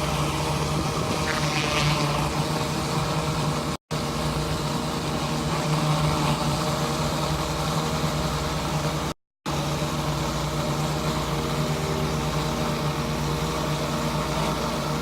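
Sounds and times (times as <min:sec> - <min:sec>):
pressure washer engine running: 0:00.0 - 0:15.0.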